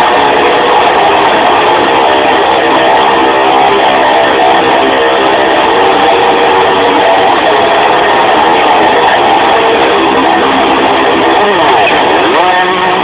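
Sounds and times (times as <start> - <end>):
distorted electric guitar strumming: 0.0 - 13.0.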